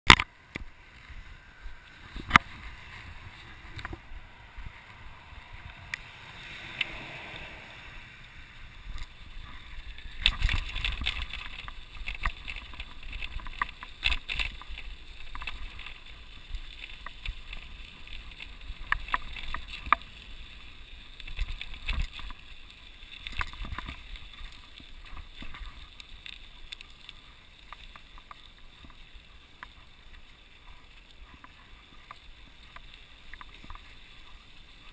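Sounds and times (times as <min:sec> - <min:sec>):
tyres on snow and slush: 0:00.1 - 0:34.9.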